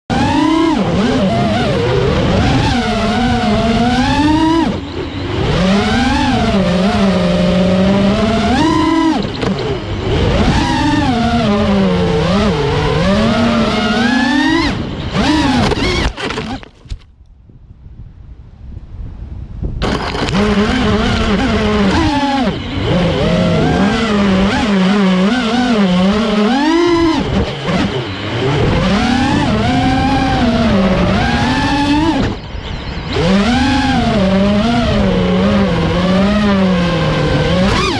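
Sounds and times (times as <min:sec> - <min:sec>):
drone motors whining: 0:00.1 - 0:17.1, 0:19.8 - 0:37.9.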